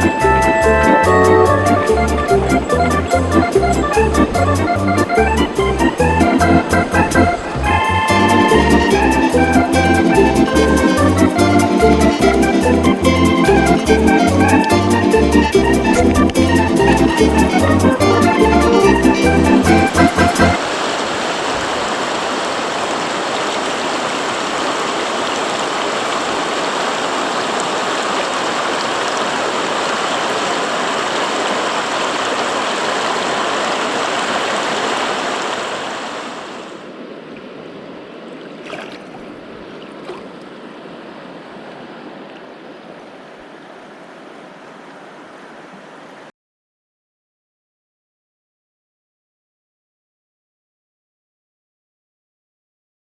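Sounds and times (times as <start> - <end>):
mountain stream rushing: 0.0 - 46.3.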